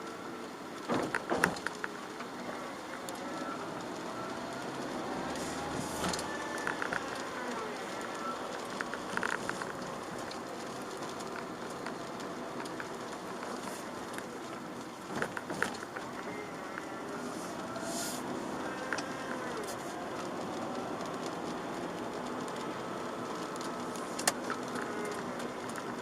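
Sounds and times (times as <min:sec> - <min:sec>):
car engine: 0:00.0 - 0:26.0
tyres hissing on wet road: 0:00.0 - 0:26.0.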